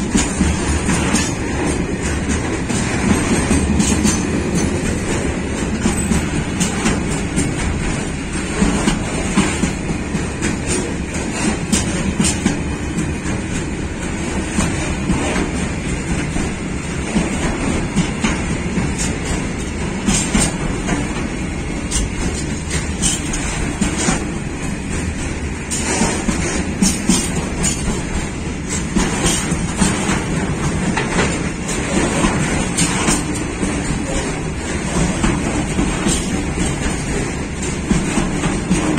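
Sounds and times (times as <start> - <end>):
train wheels rumbling on rail: 0.0 - 38.9
wheels clacking over rail joints: 0.0 - 38.9.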